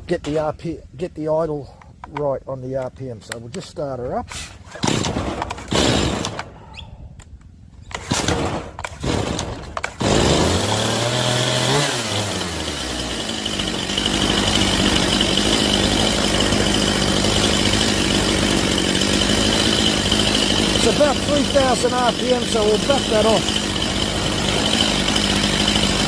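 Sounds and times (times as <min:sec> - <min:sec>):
chainsaw starting and idling: 0:04.3 - 0:06.6, 0:07.3 - 0:26.0.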